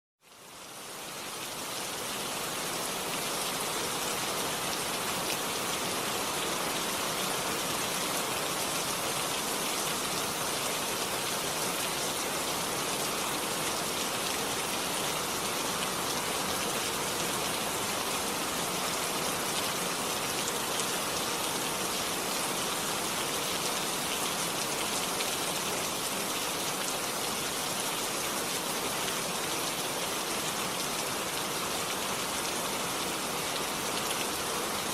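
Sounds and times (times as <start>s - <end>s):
steady rainfall: 0.2s - 34.9s.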